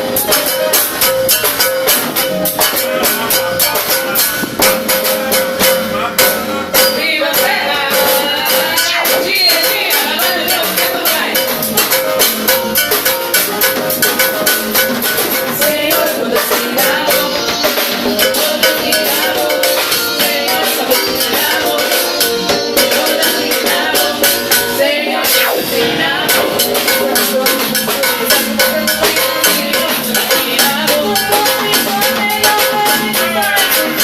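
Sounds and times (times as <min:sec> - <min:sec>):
drums: 0:00.0 - 0:34.0
live band playing: 0:00.0 - 0:34.0.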